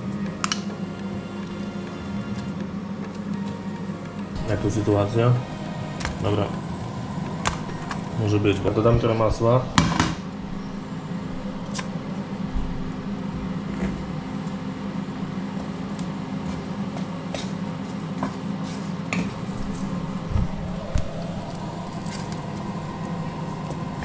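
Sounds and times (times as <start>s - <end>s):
induction hob humming: 0.0s - 24.0s.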